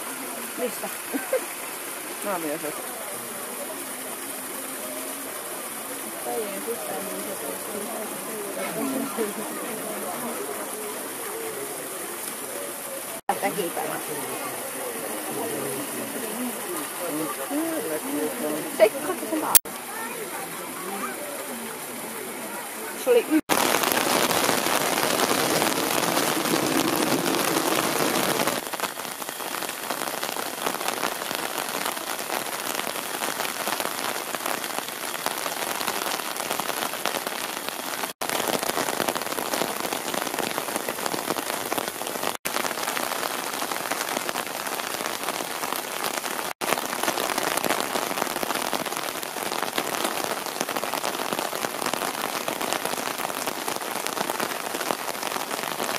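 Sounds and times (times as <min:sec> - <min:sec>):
rain falling on wood and rock: 0:00.0 - 0:55.9.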